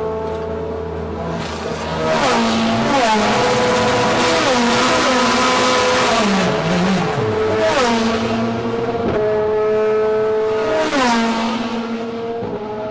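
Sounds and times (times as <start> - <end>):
race car engines: 0.0 - 12.9.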